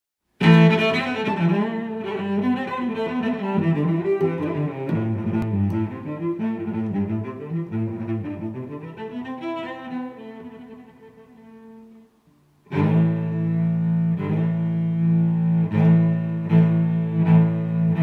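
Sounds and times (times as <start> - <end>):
low bowed strings music: 0.4 - 18.0.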